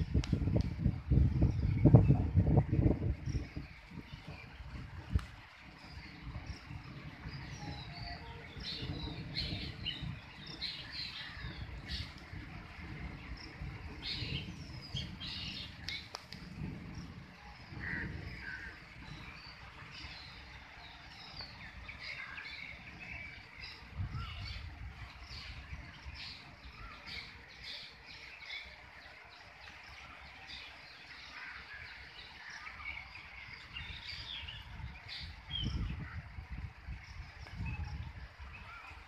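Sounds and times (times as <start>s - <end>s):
wind rumbling on microphone: 0.0s - 39.0s
birds chirping: 1.1s - 39.0s.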